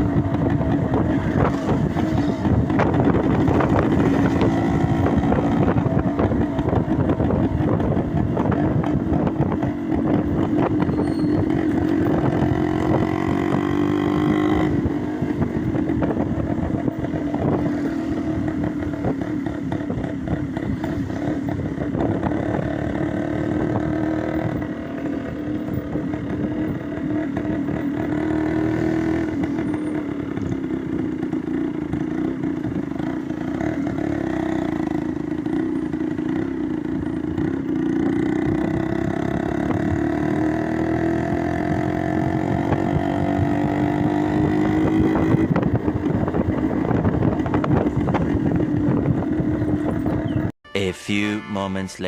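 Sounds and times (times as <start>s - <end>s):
motorcycle engine running: 0.0s - 50.5s.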